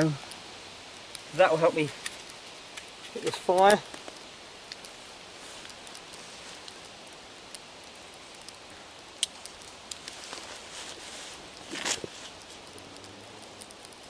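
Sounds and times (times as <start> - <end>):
fire crackling: 0.0 - 14.0
fire hissing softly: 0.0 - 14.0.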